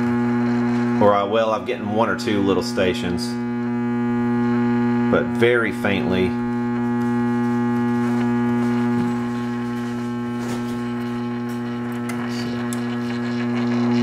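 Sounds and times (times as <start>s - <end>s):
buzzy hum from radio speaker: 0.0s - 14.0s
faint radio station: 0.0s - 14.0s.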